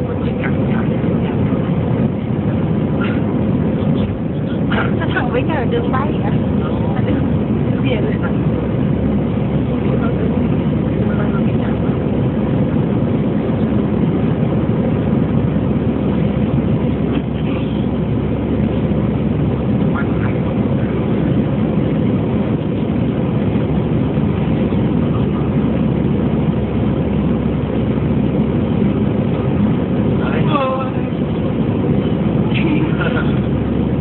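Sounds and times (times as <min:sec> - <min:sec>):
jet engines roaring in cabin: 0:00.0 - 0:34.0.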